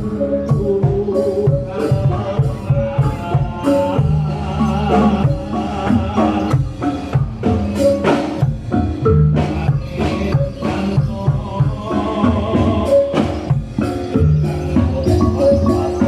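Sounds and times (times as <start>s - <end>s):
ringing struck metal percussion: 0.0s - 16.0s.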